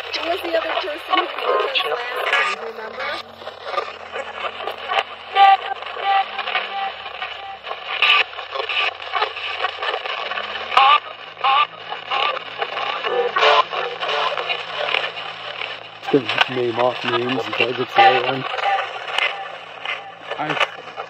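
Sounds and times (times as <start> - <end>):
choppy radio static sweeping: 0.0 - 21.0
snippets of voices and tones: 0.0 - 21.0.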